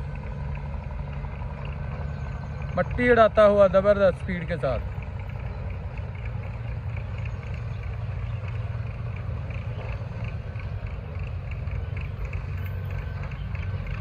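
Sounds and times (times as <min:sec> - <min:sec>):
locomotive rumbling at speed: 0:00.0 - 0:14.0.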